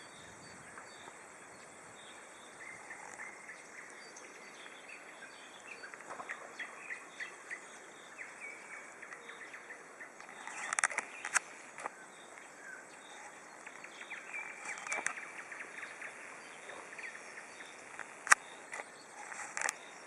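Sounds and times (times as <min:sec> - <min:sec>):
songbirds singing: 0:00.0 - 0:20.0
steady outdoor hiss: 0:00.0 - 0:20.0.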